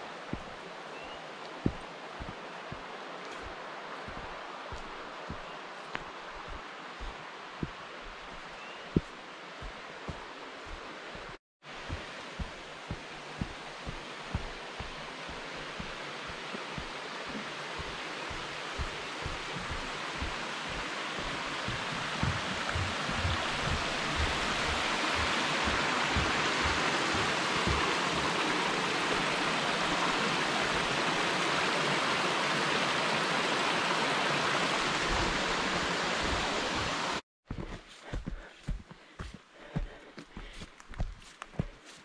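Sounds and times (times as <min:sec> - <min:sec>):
stream flowing water: 0:00.0 - 0:42.0
footsteps on trail: 0:00.3 - 0:30.0, 0:35.0 - 0:42.0.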